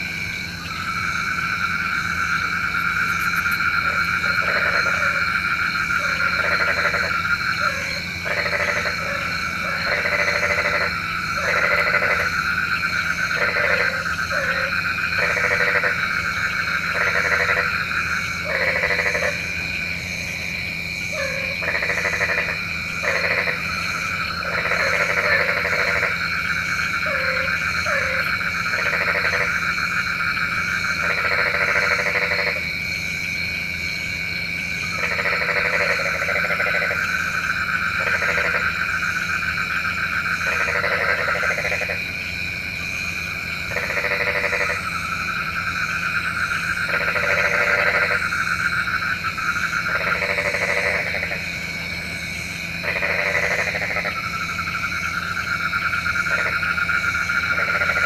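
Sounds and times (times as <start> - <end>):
frog chorus: 0.0 - 58.0
frog croaks: 0.0 - 58.0.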